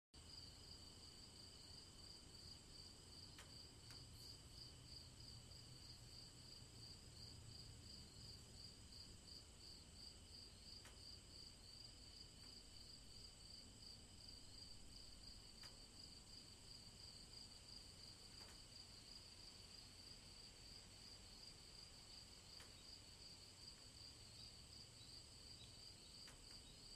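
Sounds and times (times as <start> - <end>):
steady high insect tones: 0.3 - 26.9.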